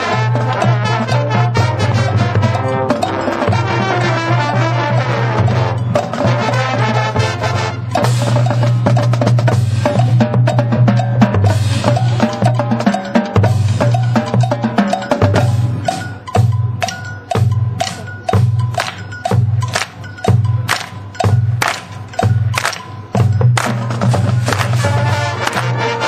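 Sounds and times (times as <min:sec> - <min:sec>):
marching band playing: 0:00.0 - 0:26.0
percussion strikes: 0:00.0 - 0:26.0.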